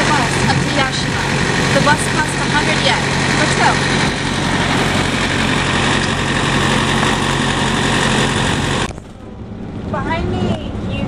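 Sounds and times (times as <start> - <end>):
bus engine idling: 0.0 - 9.9.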